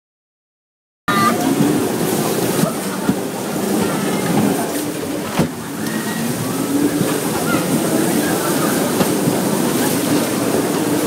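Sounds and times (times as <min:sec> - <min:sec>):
bumper car rumble: 0:01.1 - 0:11.0.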